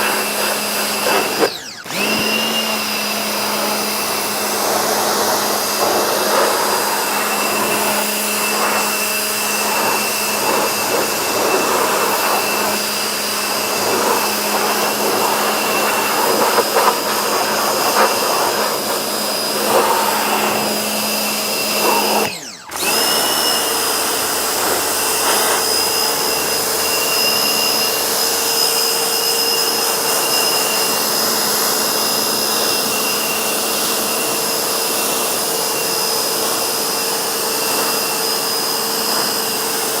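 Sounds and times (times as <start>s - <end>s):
vacuum cleaner whining: 0.0s - 40.0s.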